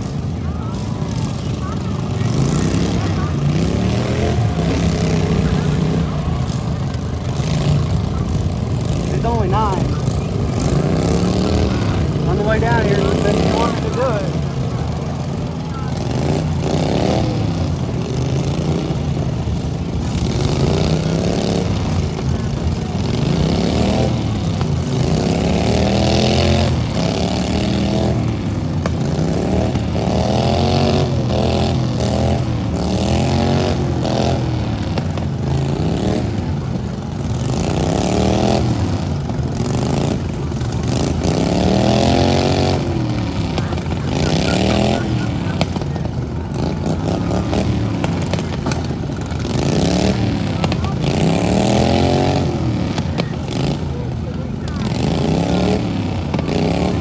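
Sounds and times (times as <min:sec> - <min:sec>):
ride-on lawn mower engines revving: 0:00.0 - 0:57.0.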